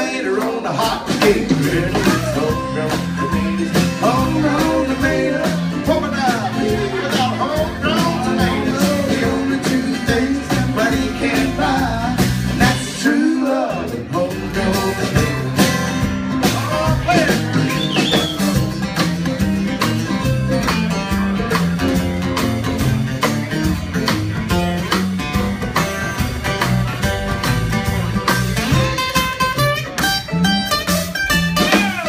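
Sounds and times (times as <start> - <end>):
plucked upright bass: 0.0 - 32.0
strummed acoustic guitar: 0.4 - 32.0.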